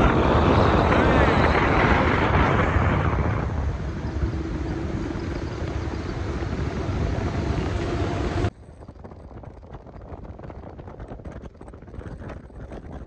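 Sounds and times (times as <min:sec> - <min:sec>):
pickup truck running at speed: 0:00.0 - 0:13.0
wind rushing over microphone: 0:00.0 - 0:13.0.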